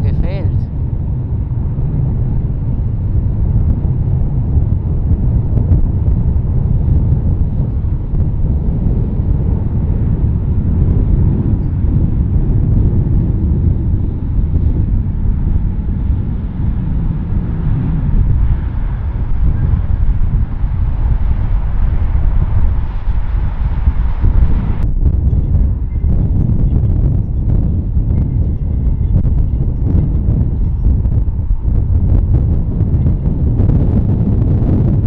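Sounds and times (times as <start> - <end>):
jet engines rumbling: 0.0 - 35.0.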